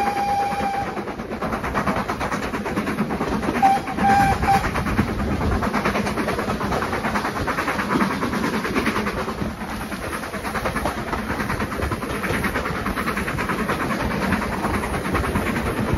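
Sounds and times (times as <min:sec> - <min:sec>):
carriage wheels on track: 0:00.0 - 0:15.9
steam locomotive exhaust beat: 0:00.0 - 0:15.9.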